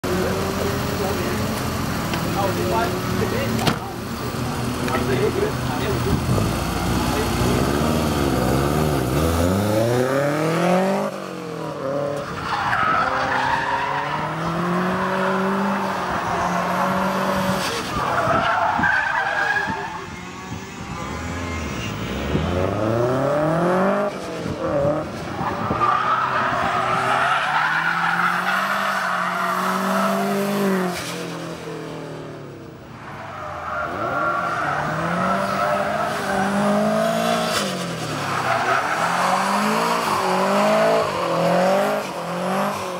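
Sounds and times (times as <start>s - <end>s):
car engine revving: 0.0s - 20.2s, 20.9s - 42.9s
tyres squealing and skidding: 0.0s - 32.2s, 32.8s - 42.9s.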